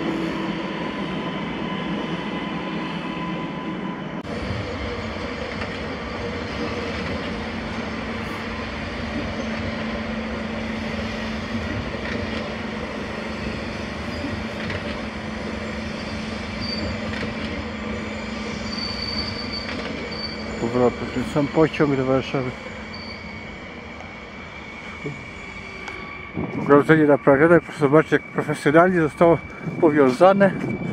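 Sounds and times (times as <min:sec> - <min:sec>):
train wheels on rails: 0:00.0 - 0:30.9.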